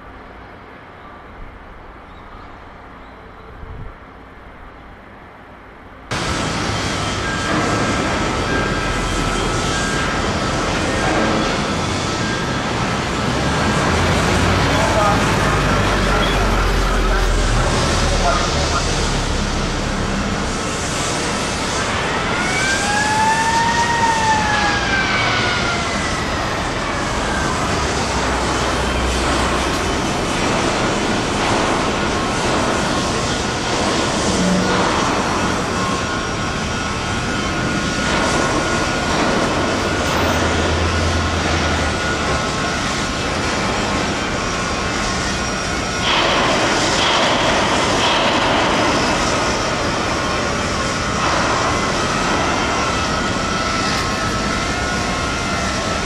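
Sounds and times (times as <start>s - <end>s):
steady mechanical roar: 6.0s - 56.0s.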